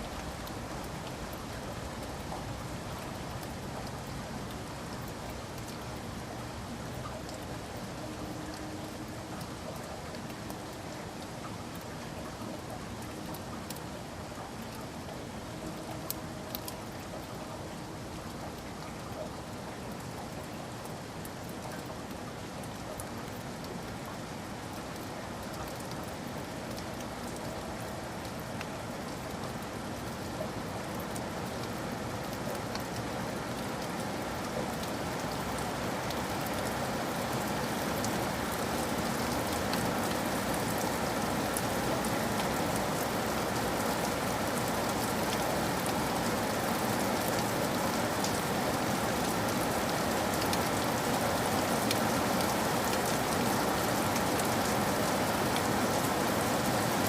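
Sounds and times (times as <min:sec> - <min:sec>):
rain drop ticks: 0:00.0 - 0:57.0
rain falling on surfaces: 0:00.0 - 0:57.0.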